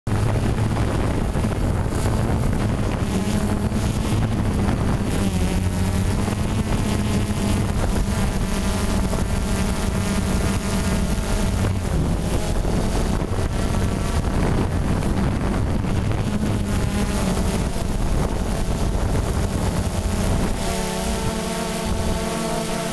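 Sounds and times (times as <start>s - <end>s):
drone propellers humming: 0.1s - 22.9s
wind on microphone: 0.1s - 22.9s.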